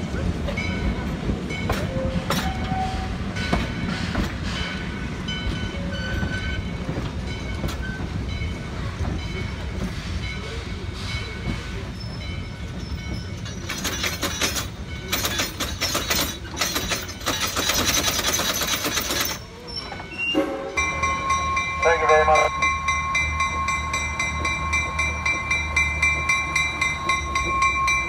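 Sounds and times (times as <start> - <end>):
train cars rumbling on track: 0.0 - 28.0.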